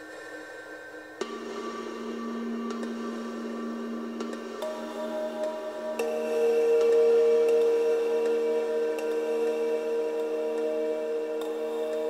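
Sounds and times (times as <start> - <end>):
ambient synthesizer drones: 0.0 - 12.0.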